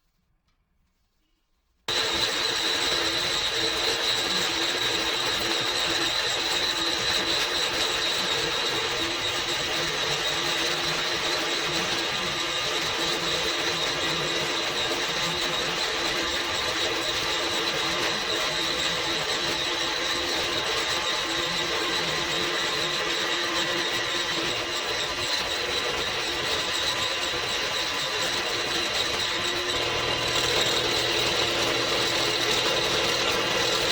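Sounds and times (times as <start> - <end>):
electric power tool whining: 1.9 - 33.9.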